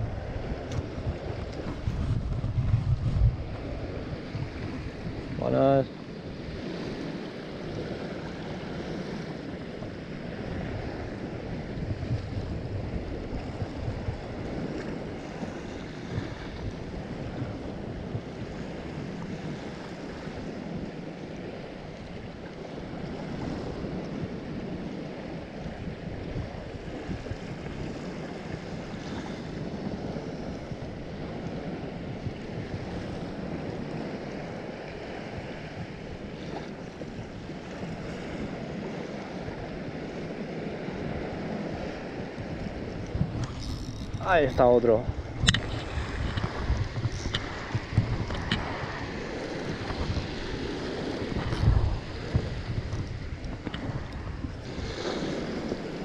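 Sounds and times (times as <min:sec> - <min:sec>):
waves washing onto sandy shore: 0:00.0 - 0:56.0
wind buffeting the microphone: 0:00.0 - 0:56.0.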